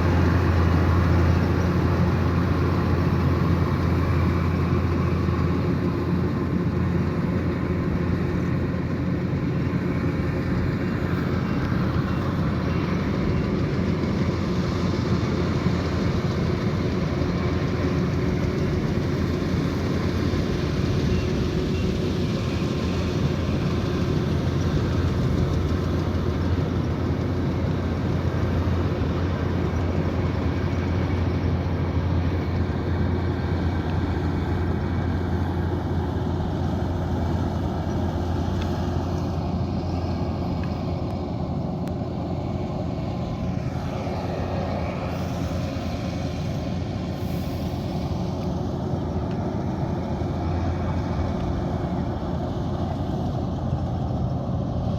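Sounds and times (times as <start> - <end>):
combine harvester engine drone: 0.0 - 54.9
machinery rushing noise: 0.0 - 54.9.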